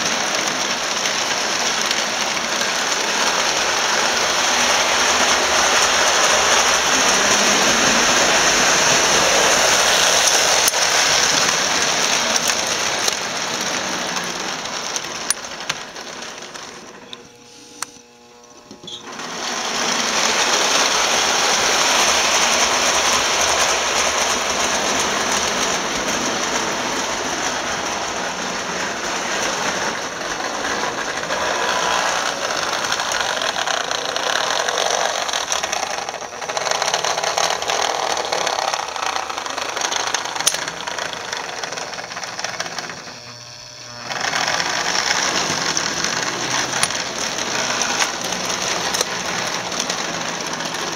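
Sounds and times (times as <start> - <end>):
toy train whirring and clattering: 0.0 - 50.9.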